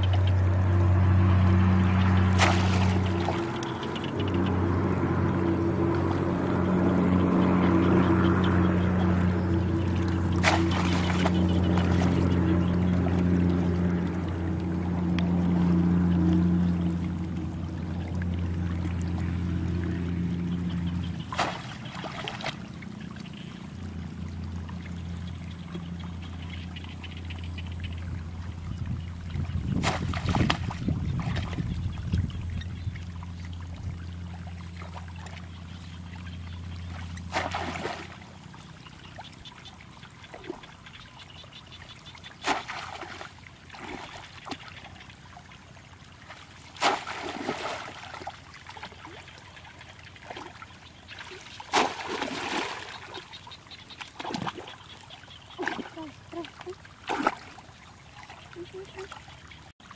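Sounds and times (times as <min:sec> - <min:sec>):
steady low hum: 0:00.0 - 0:59.7
shallow water splashing: 0:00.0 - 0:59.9.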